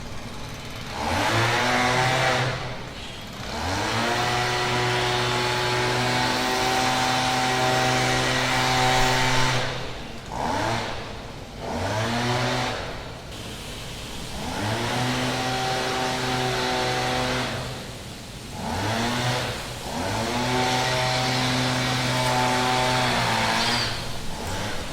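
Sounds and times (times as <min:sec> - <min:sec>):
chainsaw engine revving: 0:00.2 - 0:13.6, 0:14.2 - 0:24.9.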